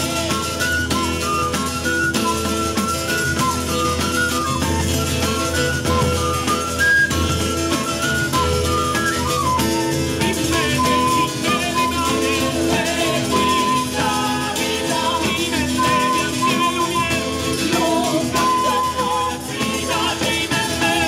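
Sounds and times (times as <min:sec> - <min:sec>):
folk band playing: 0:00.0 - 0:21.0
guitar: 0:00.0 - 0:21.0
jingling tambourines: 0:00.0 - 0:21.0.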